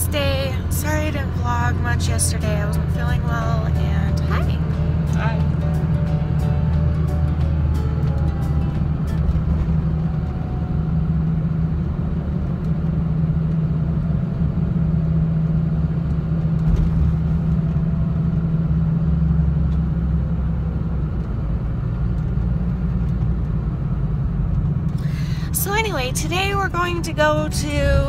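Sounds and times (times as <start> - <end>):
car engine and road hum: 0.0 - 28.0.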